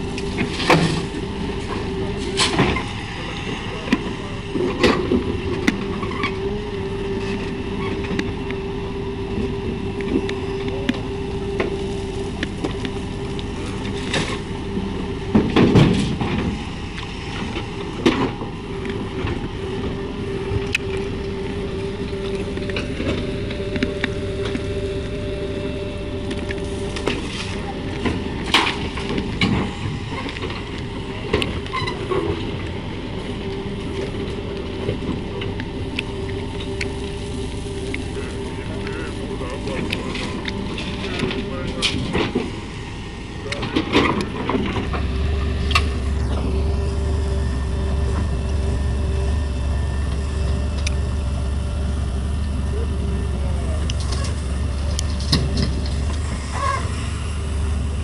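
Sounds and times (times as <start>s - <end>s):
diesel engine under load: 0.0s - 58.0s
steady whine: 0.0s - 58.0s.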